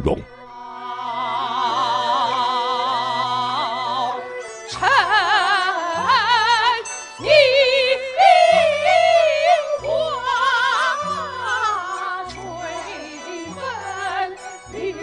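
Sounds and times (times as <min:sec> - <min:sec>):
instrumental accompaniment: 0:00.0 - 0:15.0
opera singing with vibrato: 0:00.4 - 0:15.0.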